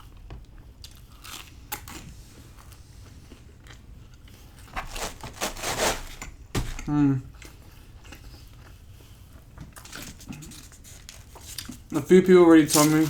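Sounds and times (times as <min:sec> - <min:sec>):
chewing pizza with crunches: 0:00.0 - 0:13.0.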